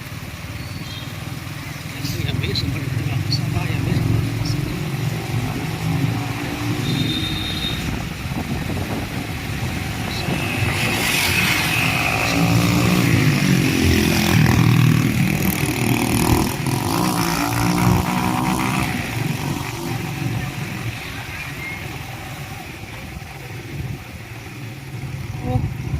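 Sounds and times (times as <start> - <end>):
vehicle engine revving: 1.4 - 24.0.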